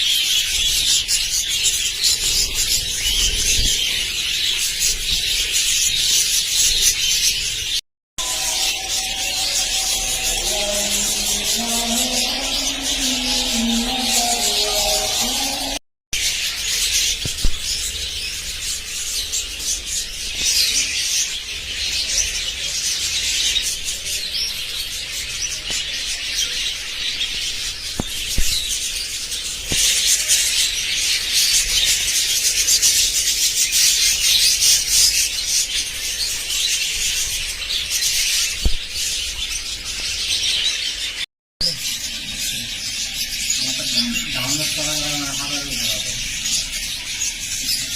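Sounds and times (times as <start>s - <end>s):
budgerigars chattering and chirping: 0.1s - 47.9s.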